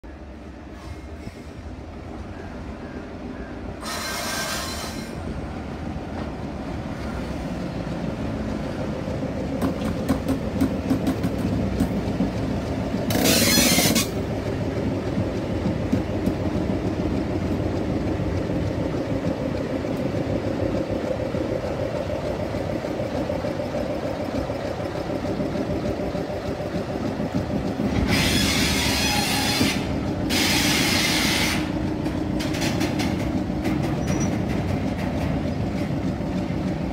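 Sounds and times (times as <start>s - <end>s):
diesel locomotive engine droning: 0.0s - 36.9s
wheels clicking over rail joints: 3.8s - 36.9s.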